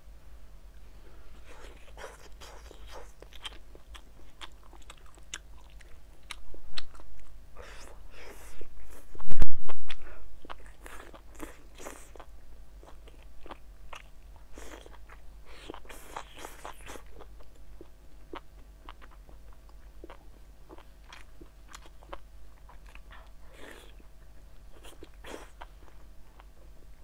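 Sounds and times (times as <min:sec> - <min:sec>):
person biting and chewing meat: 0:01.4 - 0:09.1, 0:09.9 - 0:26.5.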